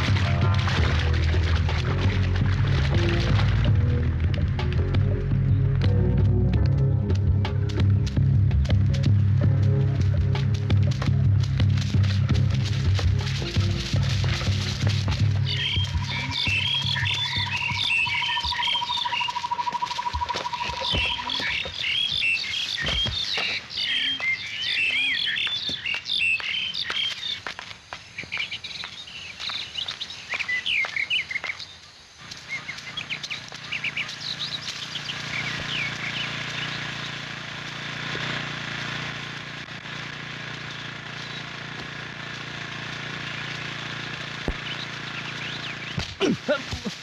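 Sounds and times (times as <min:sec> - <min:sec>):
low hum: 0:00.0 - 0:24.2, 0:32.2 - 0:47.0
birds chirping: 0:00.0 - 0:47.0.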